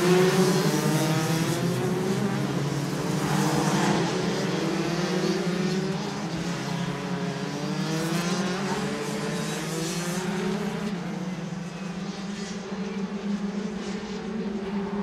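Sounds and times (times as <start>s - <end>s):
racing kart engines running: 0.0s - 15.0s.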